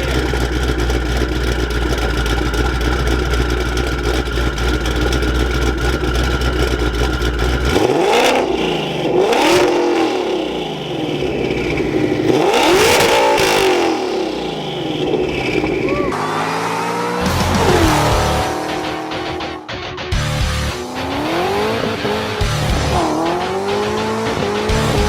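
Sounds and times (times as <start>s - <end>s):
car engine idling: 0.0s - 25.0s
car engine revving: 0.0s - 25.0s.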